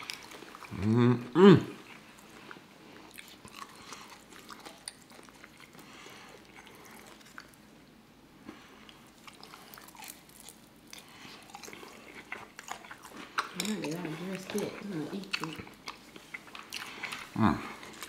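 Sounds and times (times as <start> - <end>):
crunchy chewing: 0.0 - 0.8, 1.9 - 7.6, 8.7 - 18.0.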